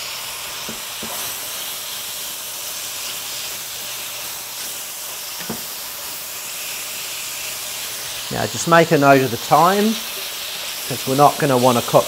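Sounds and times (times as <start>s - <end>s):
meat sizzling in a hot pan: 0.0s - 12.0s.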